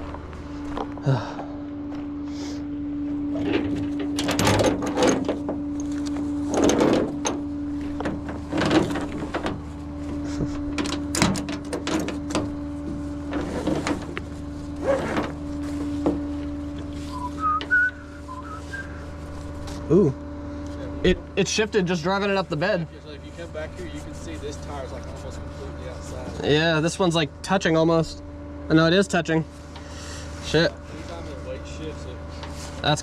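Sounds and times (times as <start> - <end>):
tow truck engine drone: 0.0 - 33.0.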